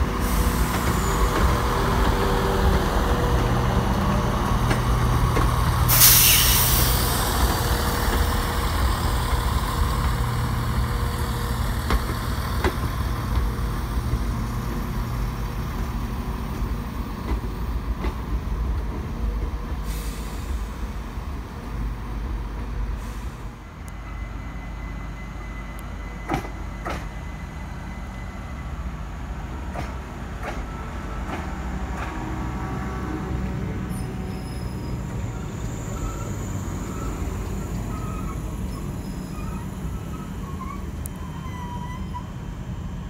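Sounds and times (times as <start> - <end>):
electric train whine: 0.0 - 43.0
train engines rumbling: 0.0 - 43.0.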